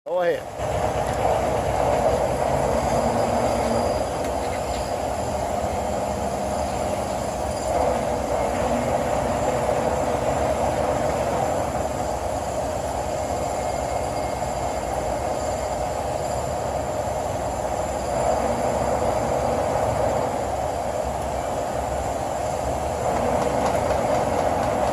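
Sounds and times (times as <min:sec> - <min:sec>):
lathe mechanical whir: 0:00.4 - 0:24.9.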